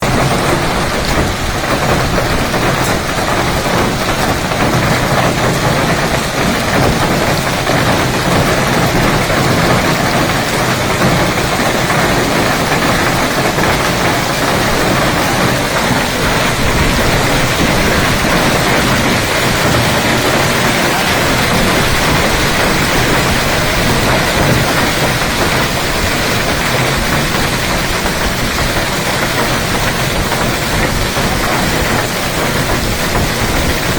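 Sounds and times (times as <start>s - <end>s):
hail and rain pounding: 0.0s - 33.9s.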